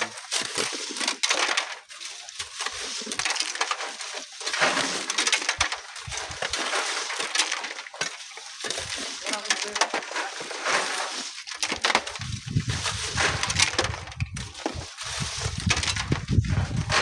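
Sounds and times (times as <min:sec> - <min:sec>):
sand and gravel rattling: 0:00.0 - 0:17.0.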